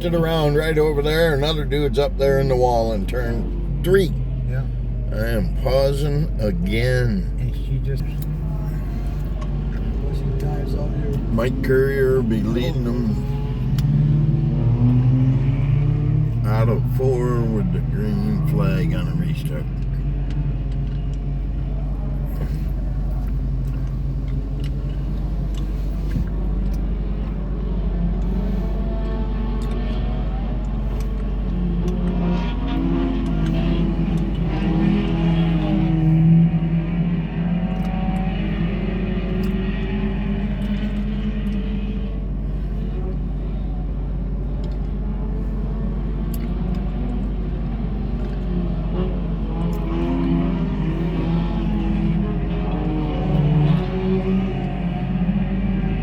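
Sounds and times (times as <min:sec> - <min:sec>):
race car engines rumbling: 0:00.0 - 0:56.0.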